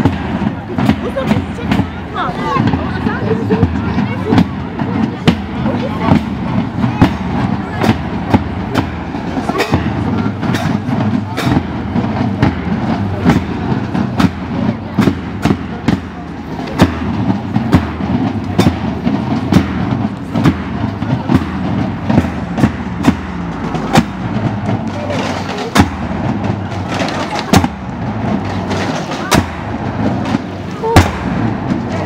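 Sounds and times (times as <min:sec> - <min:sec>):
chatter of walking crowd: 0:00.0 - 0:32.0
marching bass drums: 0:00.0 - 0:32.0.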